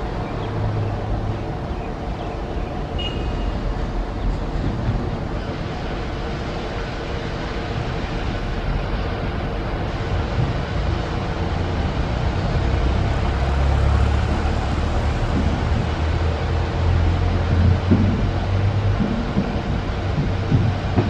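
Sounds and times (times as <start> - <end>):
diesel locomotive engine droning: 0.0 - 21.0.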